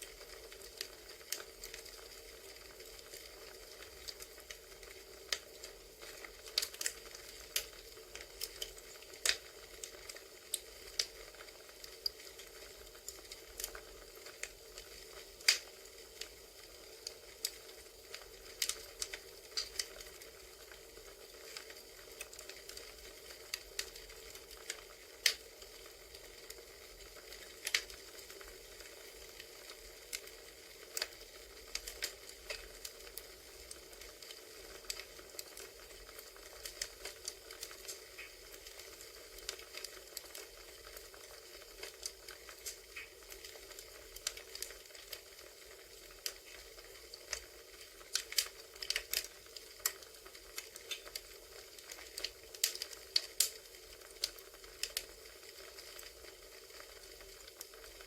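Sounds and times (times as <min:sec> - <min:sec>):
campfire hissing: 0:00.0 - 0:58.0
burning wood popping and snapping: 0:00.1 - 0:45.4, 0:46.0 - 0:56.4.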